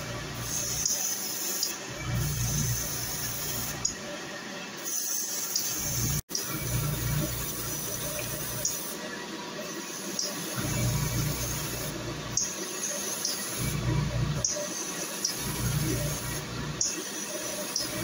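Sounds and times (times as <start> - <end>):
airbrush spraying hiss: 0.0 - 4.0, 4.8 - 6.2, 7.0 - 9.0, 9.6 - 18.0.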